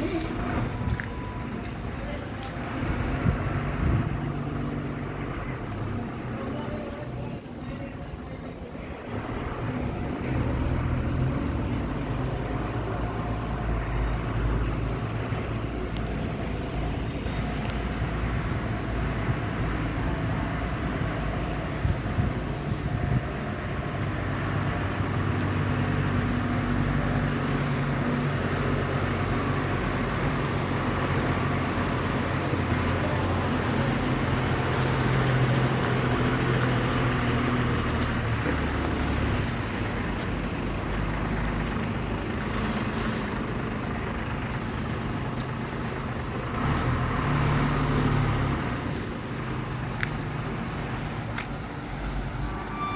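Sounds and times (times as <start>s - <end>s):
road and traffic noise: 0.0s - 52.9s
truck engine droning: 0.0s - 52.9s.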